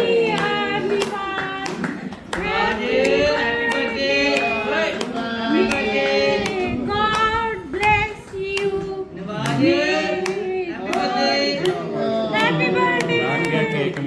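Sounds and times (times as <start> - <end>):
people singing together: 0.0 - 14.0
rhythmic hand-clapping: 0.0 - 14.0.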